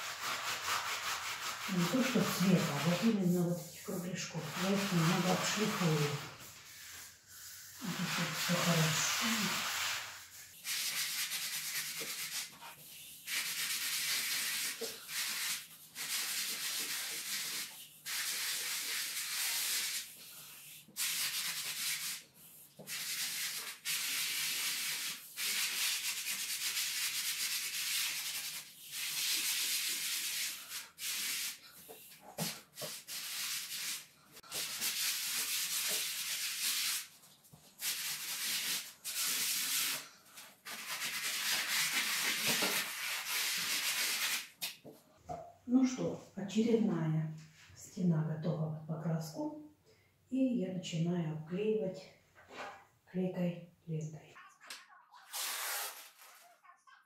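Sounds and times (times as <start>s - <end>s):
sandpaper rubbing on wall: 0.0s - 44.8s, 55.2s - 56.5s.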